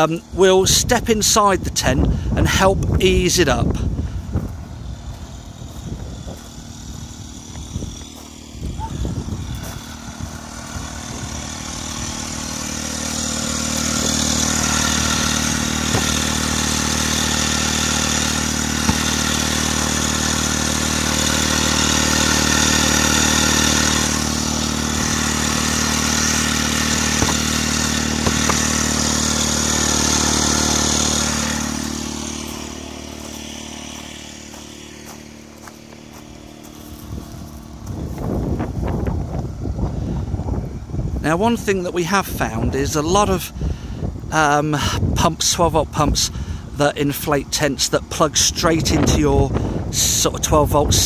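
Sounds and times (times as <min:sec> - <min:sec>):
electric air pump humming: 0:00.0 - 0:45.2.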